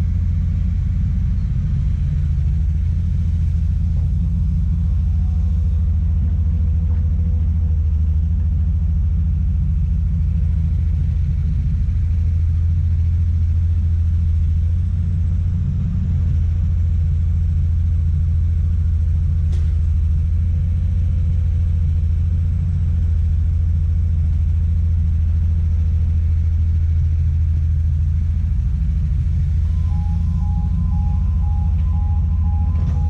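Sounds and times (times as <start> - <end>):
excavator diesel engine rumbling: 0.0 - 33.0.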